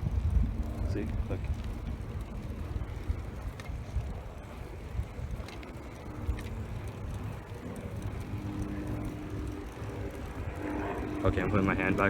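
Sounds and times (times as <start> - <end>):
bicycle rumble: 0.0 - 12.0
wind buffeting microphone: 0.0 - 12.0.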